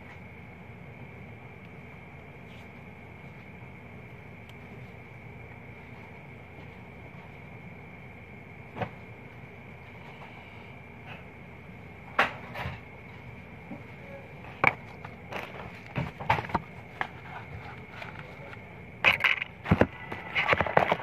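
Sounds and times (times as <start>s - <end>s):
faint high-pitched hum: 0.0s - 21.0s.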